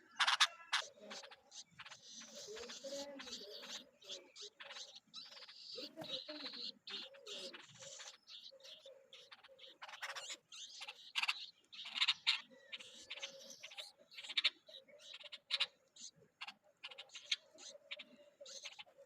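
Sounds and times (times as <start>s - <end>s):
chicks calling harshly: 0.0s - 19.0s.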